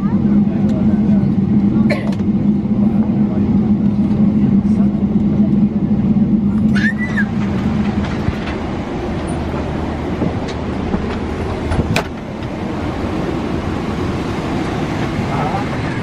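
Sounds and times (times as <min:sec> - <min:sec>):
airplane cabin noise: 0:00.0 - 0:16.0.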